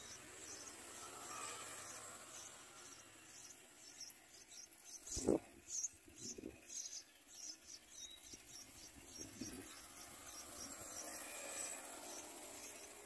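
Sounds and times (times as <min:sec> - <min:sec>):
nestlings begging chirps: 0:00.0 - 0:13.0.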